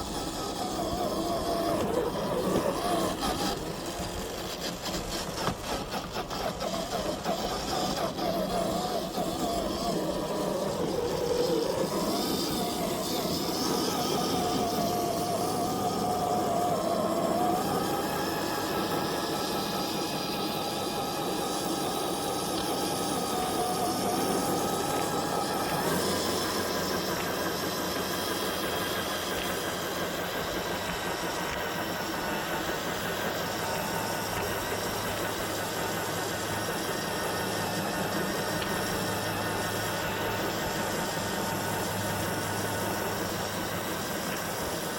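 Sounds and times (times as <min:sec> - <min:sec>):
electric motor whining: 0:00.0 - 0:44.9.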